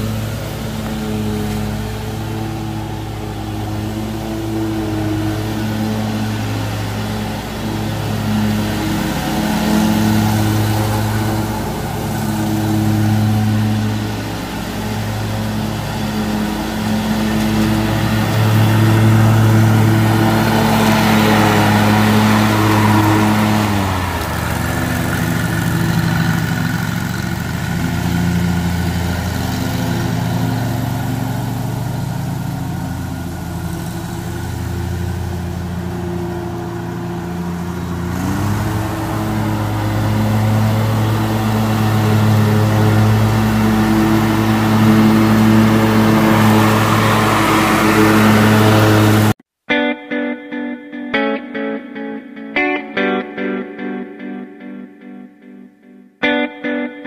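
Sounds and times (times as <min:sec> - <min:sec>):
lawn mower engine running: 0:00.0 - 0:49.4.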